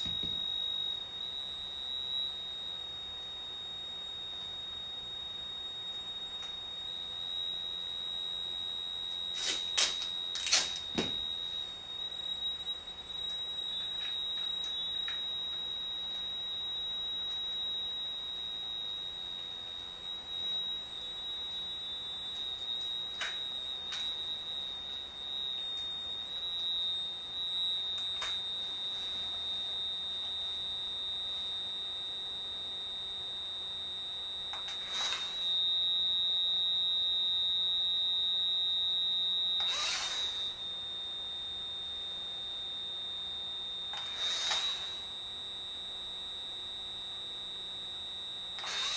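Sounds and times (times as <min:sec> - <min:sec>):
high-pitched electronic sine tone: 0:00.0 - 0:48.9.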